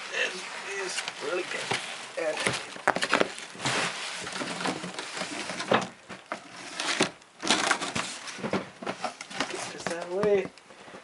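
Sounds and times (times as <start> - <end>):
cardboard rustling and crunching: 0.4 - 11.0.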